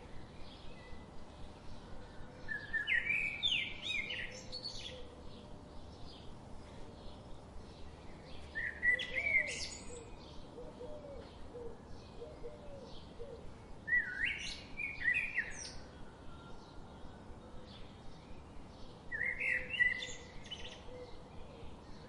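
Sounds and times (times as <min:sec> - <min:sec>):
bird song phrases: 0:00.0 - 0:22.0.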